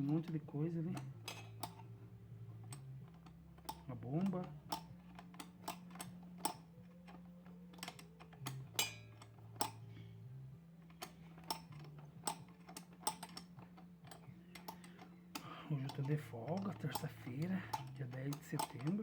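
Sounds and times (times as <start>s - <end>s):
steady low hum: 0.0s - 19.0s
tools and parts clicking: 0.0s - 19.0s.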